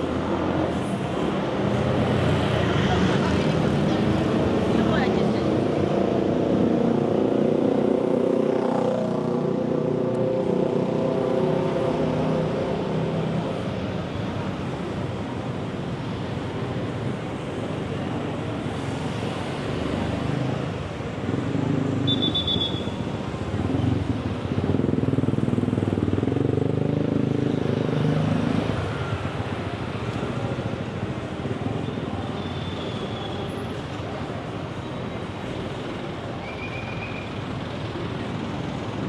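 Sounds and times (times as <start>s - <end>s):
street traffic: 0.0s - 39.0s.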